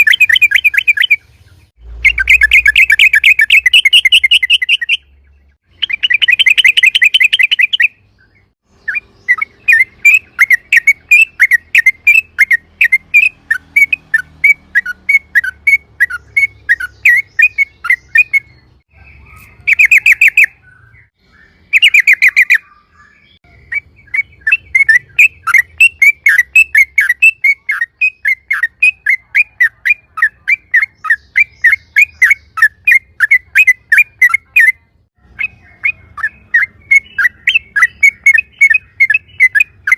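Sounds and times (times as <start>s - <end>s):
bird chirping song: 0.0s - 39.9s
rapid bird trills: 0.0s - 39.9s.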